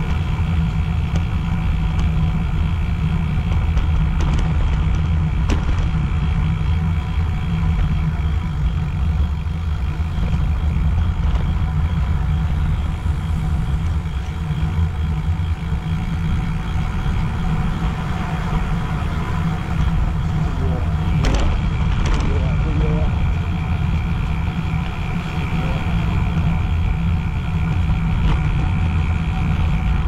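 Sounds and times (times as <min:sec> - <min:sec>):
road and tyre noise: 0:00.0 - 0:30.0
wind buffeting microphone: 0:00.0 - 0:30.0.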